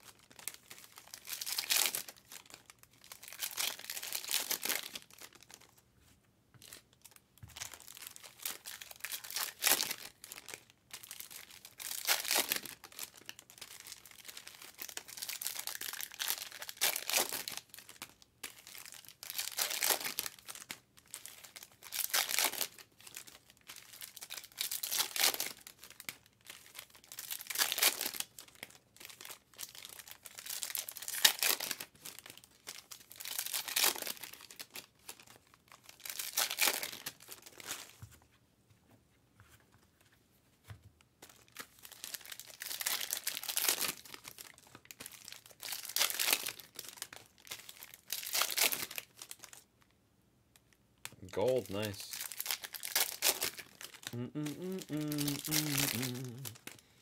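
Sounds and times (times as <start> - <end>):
foil wrappers tearing and crinkling: 0.0 - 5.7, 6.6 - 38.0, 41.3 - 49.6, 51.6 - 56.8.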